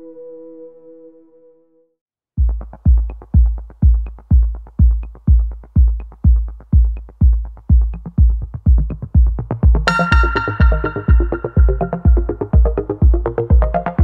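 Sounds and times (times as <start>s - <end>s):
electronic music with kick drum: 2.4s - 14.0s.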